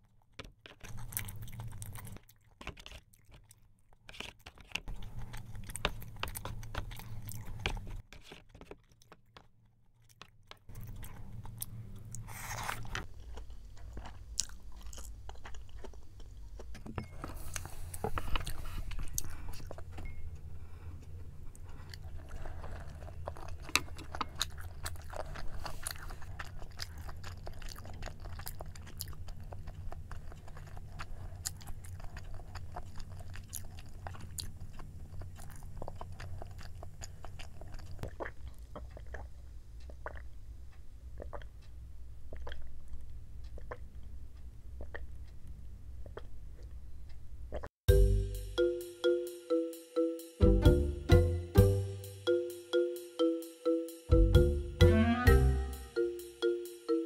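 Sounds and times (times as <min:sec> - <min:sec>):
close chewing with wet clicks: 0:00.0 - 0:12.3, 0:12.9 - 0:47.8.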